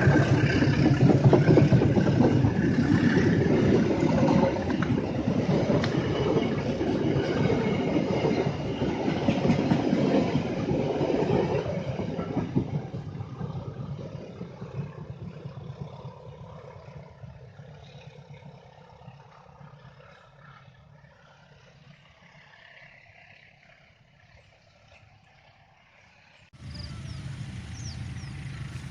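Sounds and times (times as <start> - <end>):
train passing: 0.0 - 28.9.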